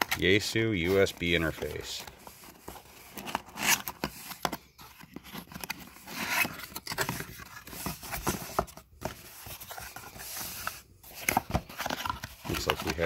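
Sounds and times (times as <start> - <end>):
cardboard box being opened: 0.0 - 13.0.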